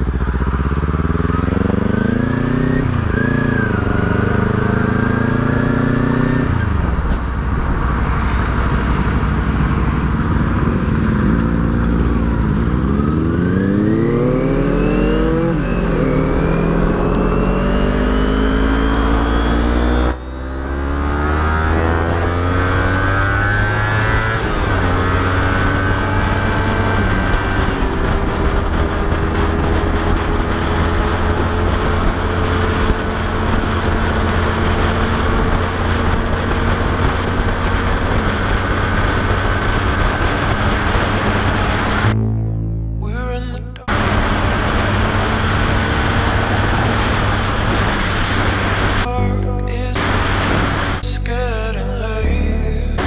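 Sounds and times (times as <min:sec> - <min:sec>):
motorcycle engine accelerating: 0:00.0 - 0:43.0, 0:43.8 - 0:49.3, 0:49.9 - 0:51.1.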